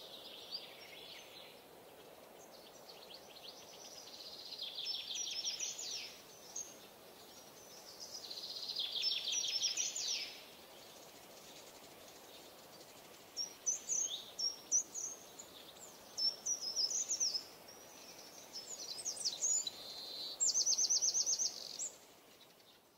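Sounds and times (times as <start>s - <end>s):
faint outdoor background: 0.0s - 22.9s
songbird singing: 0.0s - 22.9s.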